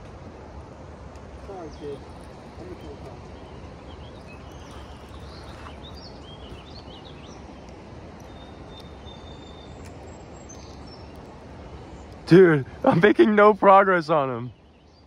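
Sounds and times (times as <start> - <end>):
small birds chirping: 1.1 - 15.0.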